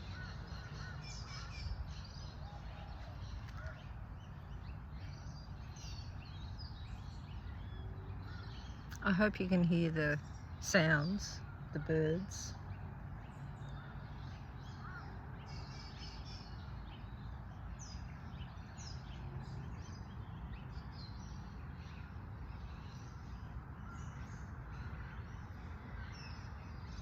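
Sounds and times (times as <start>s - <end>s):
wild birds chirping: 0.0s - 27.0s.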